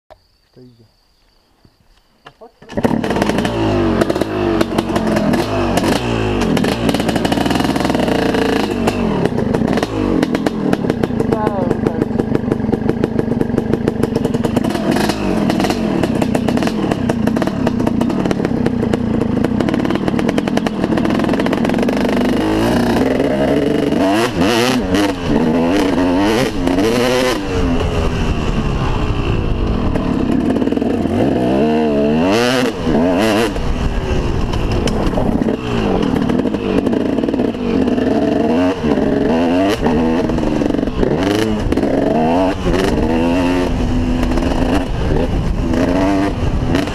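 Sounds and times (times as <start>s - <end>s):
motocross engine revving: 2.6s - 46.9s.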